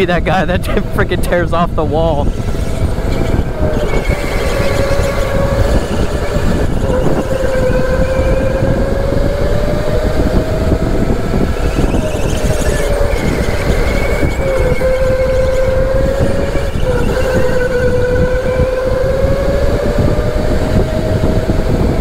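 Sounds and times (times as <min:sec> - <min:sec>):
go-kart engine whine: 0:00.0 - 0:22.0
rough rumble: 0:00.0 - 0:22.0.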